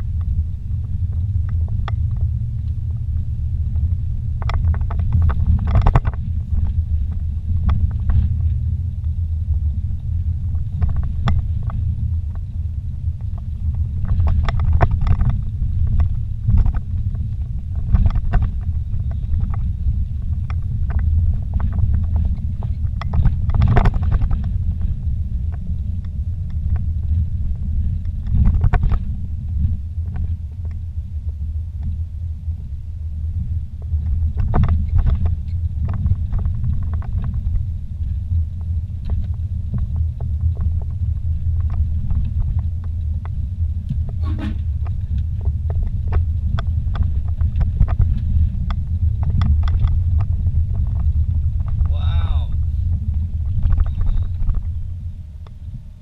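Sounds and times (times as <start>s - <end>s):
vehicle knocks and rattles: 0.0s - 30.7s, 33.8s - 51.9s
engine and tyre drone: 0.0s - 56.0s.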